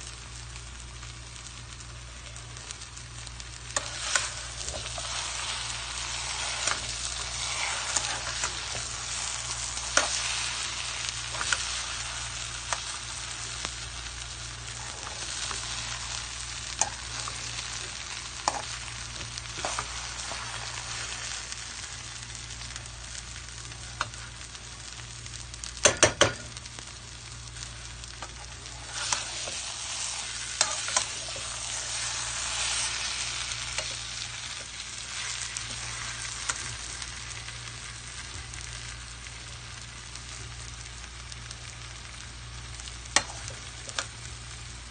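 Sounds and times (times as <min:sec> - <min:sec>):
food sizzling in frying pan: 0:00.0 - 0:44.9.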